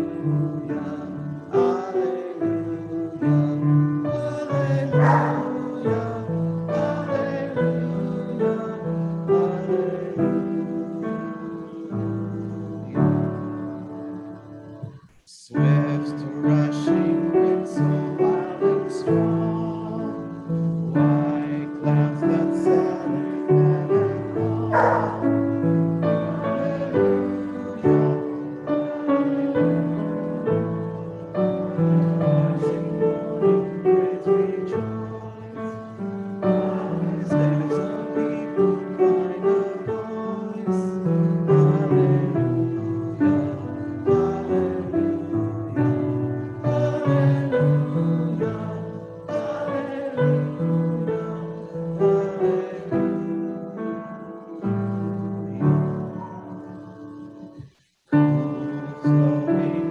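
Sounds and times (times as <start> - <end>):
congregation singing a hymn: 0.0 - 59.9
piano accompaniment: 0.0 - 59.9.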